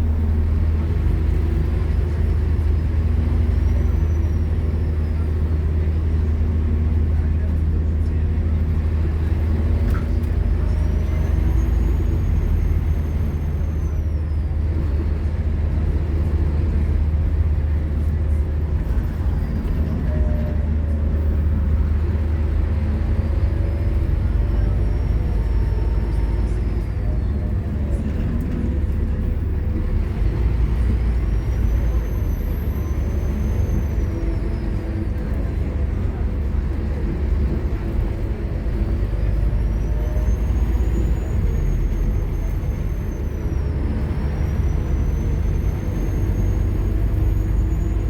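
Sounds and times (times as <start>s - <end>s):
bus diesel engine rumbling: 0.0s - 48.0s.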